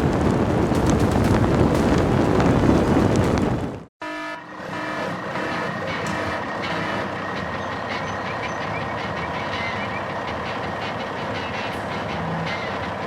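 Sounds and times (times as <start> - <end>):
truck engine running: 0.0 - 3.9, 5.1 - 13.0.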